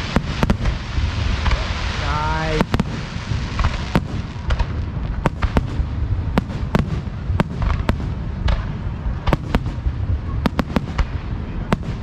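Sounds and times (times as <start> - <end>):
continuous low rumble: 0.0 - 12.0
fireworks bangs: 0.0 - 12.0.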